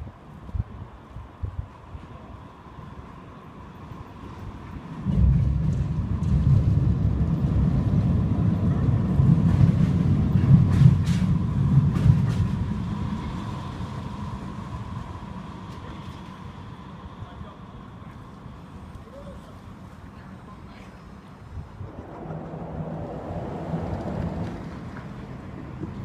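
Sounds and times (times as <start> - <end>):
vehicle low rumble: 0.0 - 26.0.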